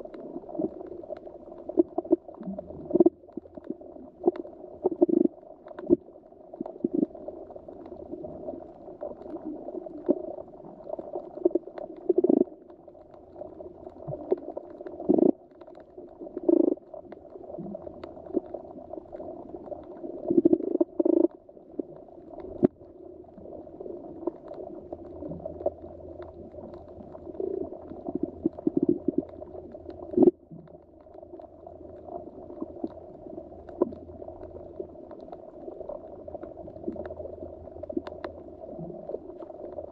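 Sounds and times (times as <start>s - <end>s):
muffled underwater wash: 0.0s - 39.9s
water gurgles and pops: 0.0s - 39.9s.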